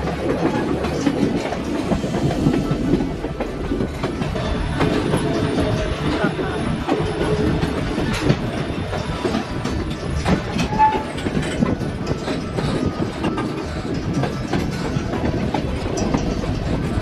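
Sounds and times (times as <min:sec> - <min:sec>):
train rumbling on track: 0:00.0 - 0:17.0
wheels clacking on rails: 0:00.0 - 0:17.0.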